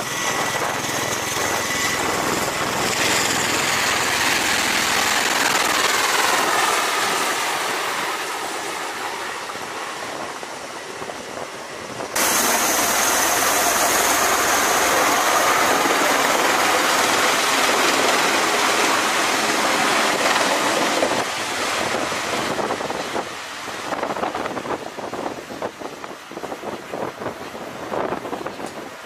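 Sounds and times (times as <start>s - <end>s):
high engine whine: 0.0s - 24.2s
aircraft rotors roaring: 0.0s - 29.0s.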